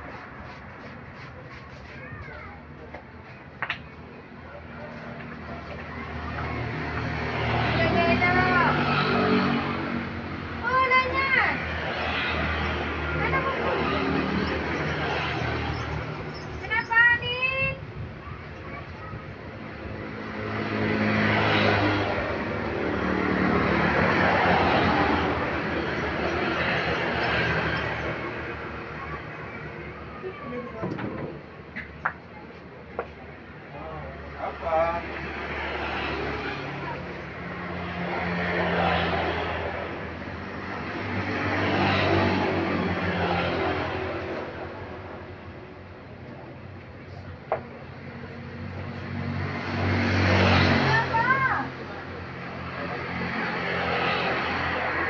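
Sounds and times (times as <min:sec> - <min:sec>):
heavy road traffic: 0:00.0 - 0:55.0.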